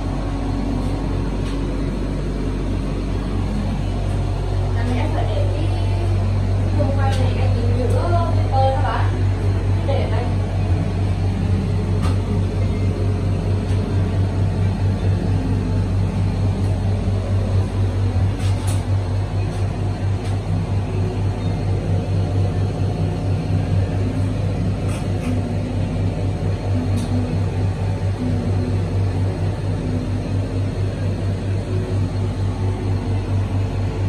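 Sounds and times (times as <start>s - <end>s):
low fluttering mechanical hum: 0.0s - 34.0s.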